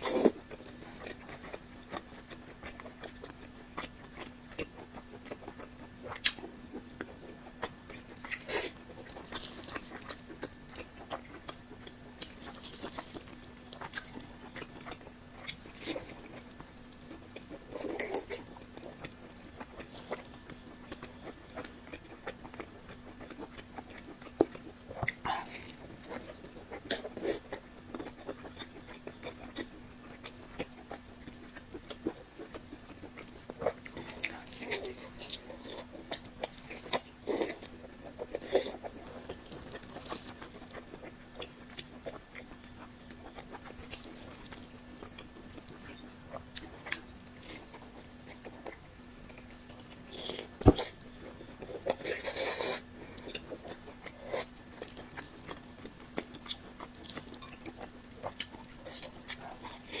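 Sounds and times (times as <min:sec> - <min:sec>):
person chewing food: 0:00.0 - 1:00.0.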